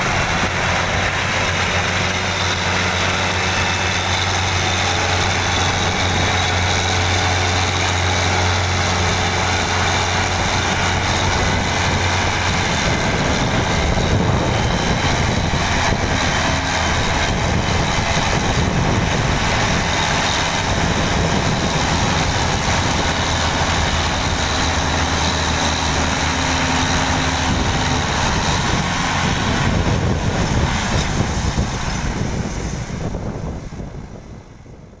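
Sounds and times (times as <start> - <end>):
tractor diesel engine labouring: 0.0 - 35.0.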